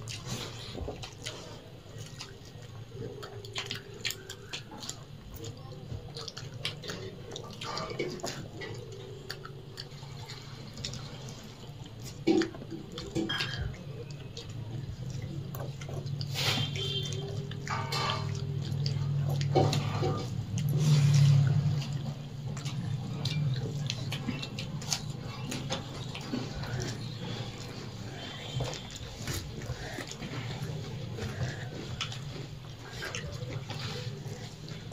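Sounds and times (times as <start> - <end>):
chewing: 0.0 - 34.9.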